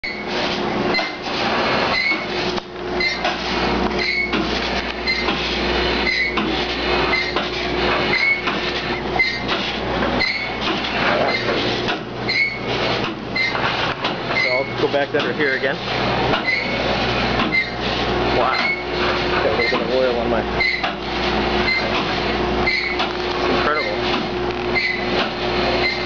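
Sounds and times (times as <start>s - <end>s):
machinery rumble and hum: 0.0s - 26.0s
steam engine clanking: 3.0s - 26.0s.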